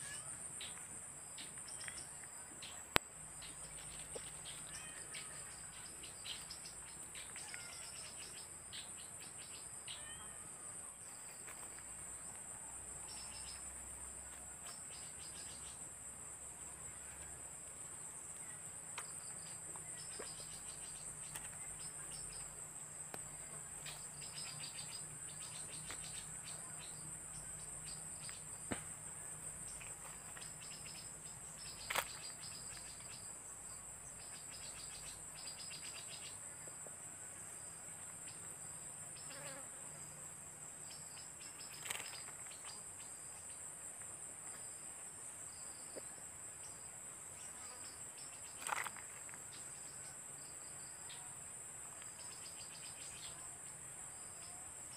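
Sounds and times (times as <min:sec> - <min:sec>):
insects buzzing: 0:00.0 - 0:54.9
rapid pulsing insect trills: 0:00.0 - 0:54.9.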